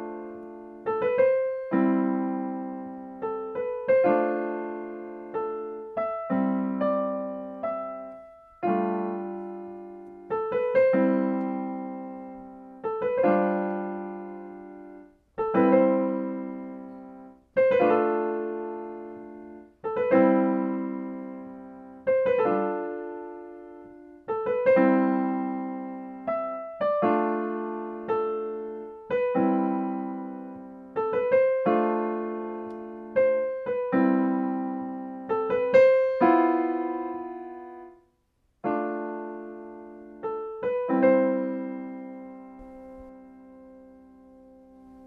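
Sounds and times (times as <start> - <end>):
slow solo piano: 0.0 - 45.0.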